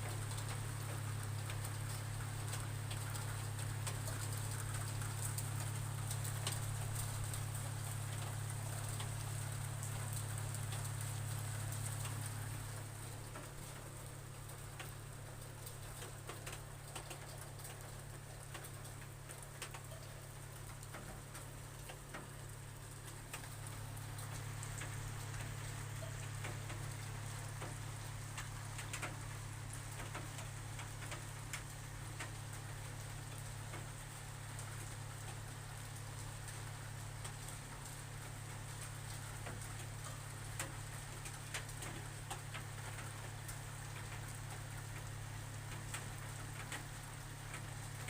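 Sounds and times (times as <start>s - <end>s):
raindrops tapping on roof: 0.0s - 48.0s.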